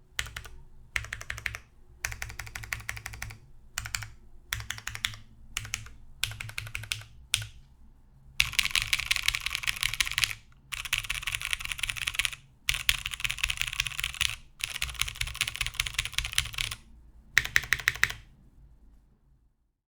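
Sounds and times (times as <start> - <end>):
mechanical keyboard typing: 0.2 - 7.6, 8.4 - 16.8, 17.4 - 18.3.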